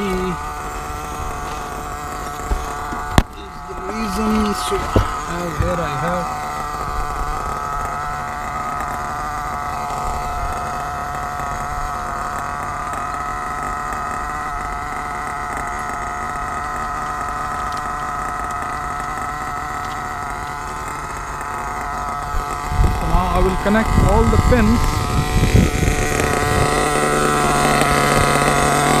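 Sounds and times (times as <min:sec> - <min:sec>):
model engine idling buzzing: 0:00.0 - 0:29.0.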